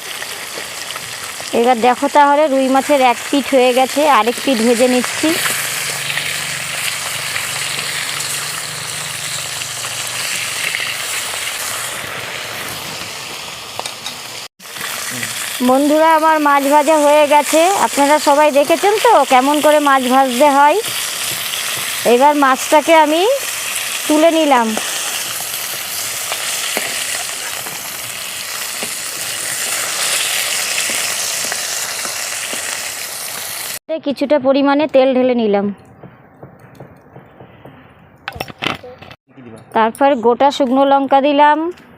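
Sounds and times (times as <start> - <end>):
fish sizzling in hot oil: 0.0 - 33.8.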